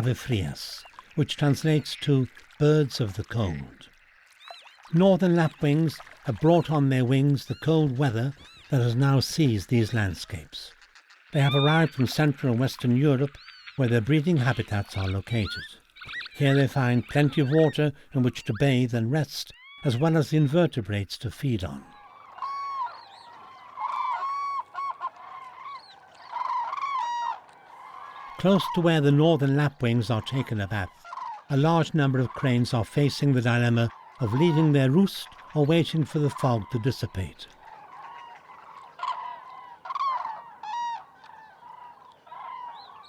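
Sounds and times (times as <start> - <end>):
flock of birds calling: 0.0 - 18.9, 21.4 - 43.0.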